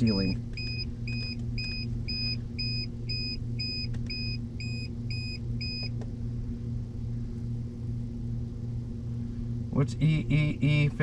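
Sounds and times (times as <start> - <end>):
duct fan hum: 0.0 - 11.0.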